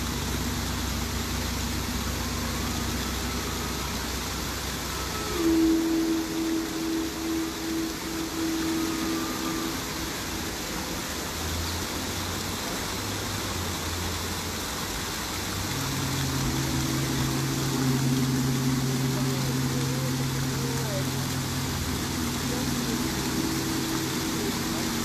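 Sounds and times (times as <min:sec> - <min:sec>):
large gong humming: 0:00.0 - 0:25.0
waterfall rushing: 0:00.0 - 0:25.0.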